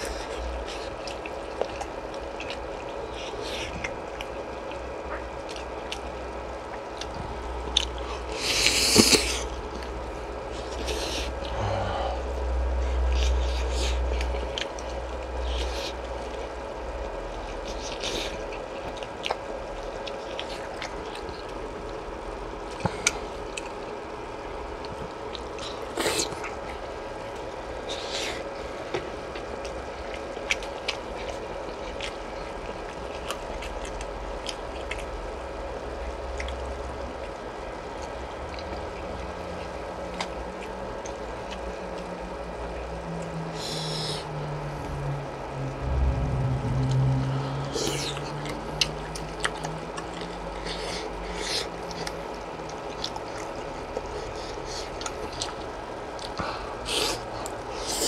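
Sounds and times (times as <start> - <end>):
chewing: 0.0 - 45.2, 46.0 - 58.0
steady hum: 0.0 - 58.0.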